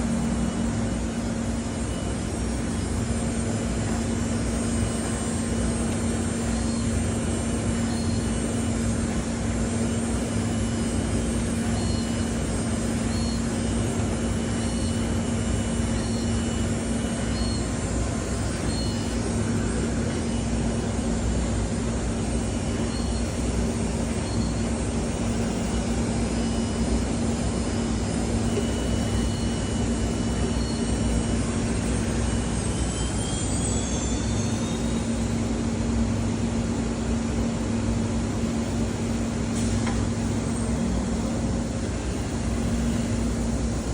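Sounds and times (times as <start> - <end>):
cnc router running: 0.0 - 43.9
thin high machine whines: 0.0 - 43.9.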